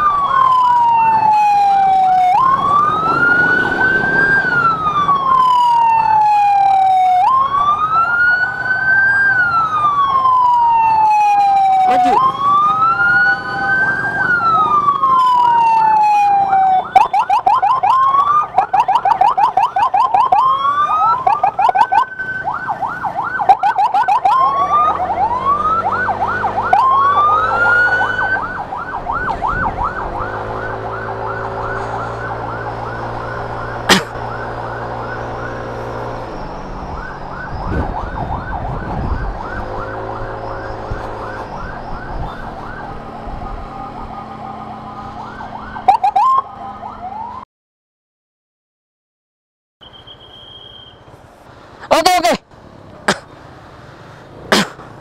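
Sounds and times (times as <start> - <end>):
ambulance siren wailing and yelping: 0.0 - 47.5.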